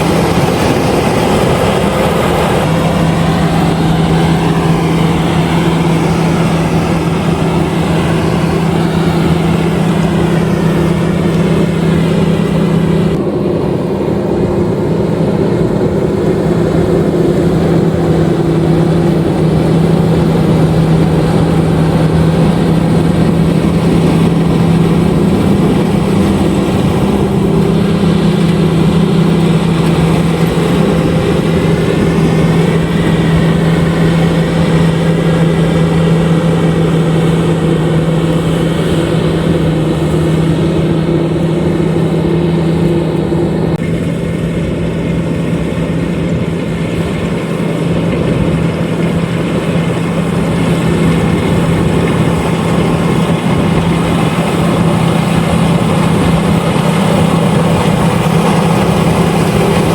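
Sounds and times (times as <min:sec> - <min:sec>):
combine harvester engine hum: 0:00.0 - 0:59.9
harvesting machinery clatter: 0:00.0 - 0:59.9
higher hum: 0:00.0 - 0:59.9.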